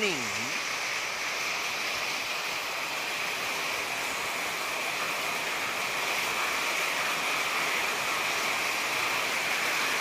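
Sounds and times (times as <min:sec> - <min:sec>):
rain on a metal roof: 0:00.0 - 0:10.0.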